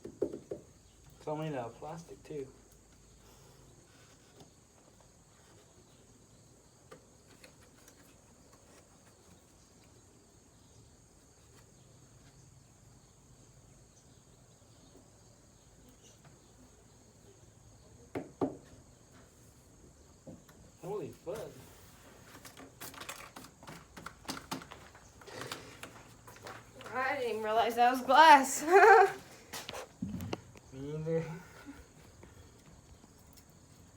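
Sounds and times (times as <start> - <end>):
faint high-pitched hiss: 0.0 - 33.9.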